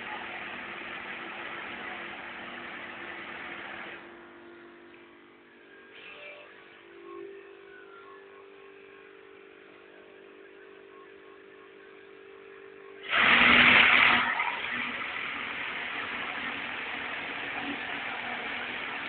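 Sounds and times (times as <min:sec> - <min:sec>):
machine motor humming: 0:00.0 - 0:10.3, 0:11.2 - 0:19.0
harsh machine running noise: 0:00.0 - 0:19.0.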